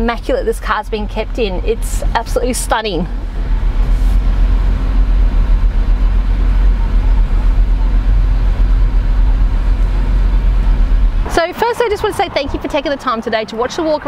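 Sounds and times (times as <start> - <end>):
car engine idling inside cabin: 0.0 - 11.3.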